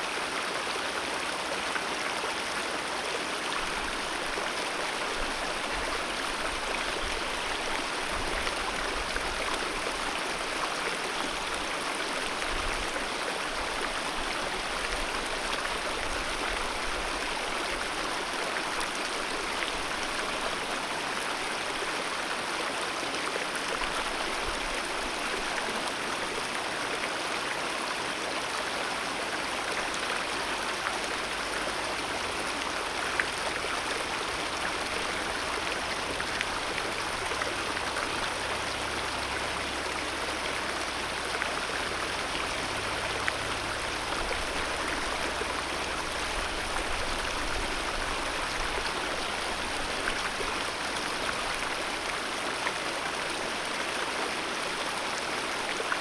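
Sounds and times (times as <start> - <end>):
mountain river flowing: 0.0 - 56.0.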